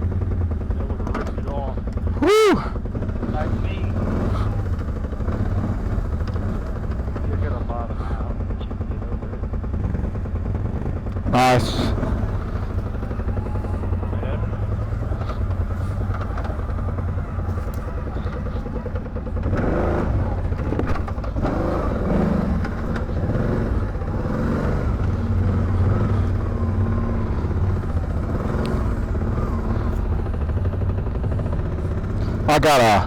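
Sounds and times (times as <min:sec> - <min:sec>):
atv engine running: 0:00.0 - 0:33.0
rattling: 0:02.8 - 0:32.5.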